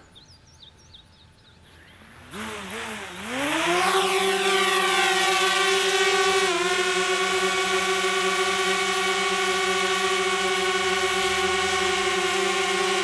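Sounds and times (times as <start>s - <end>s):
drone propellers buzzing: 1.6s - 13.0s.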